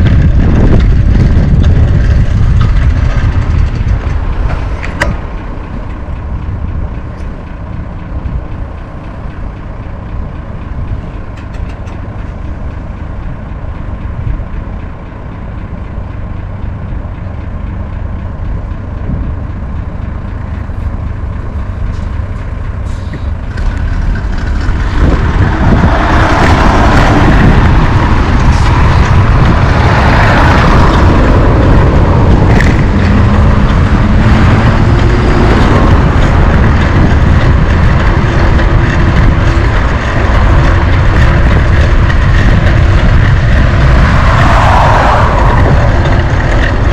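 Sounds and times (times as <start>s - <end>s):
rushing wind noise: 0.0s - 46.9s
wind buffeting microphone: 0.0s - 46.9s.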